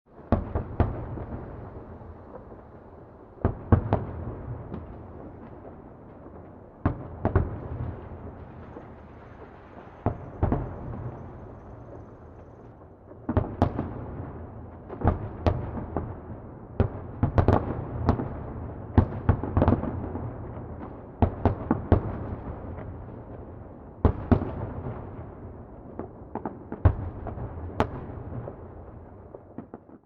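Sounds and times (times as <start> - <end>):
distant fireworks exploding: 0.1 - 30.0.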